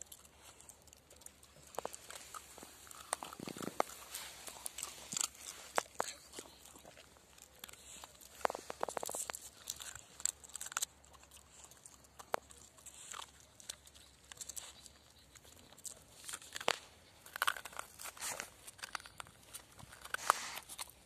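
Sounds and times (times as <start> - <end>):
dog crunching ice and snow: 0.0 - 21.0.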